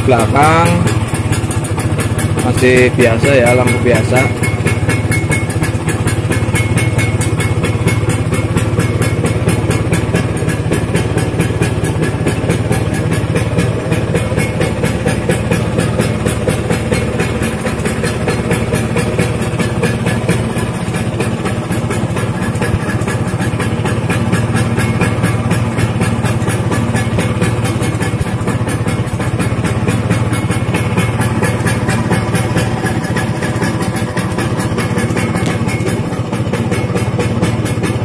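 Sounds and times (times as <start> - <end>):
scooter engine idling: 0.0 - 38.0.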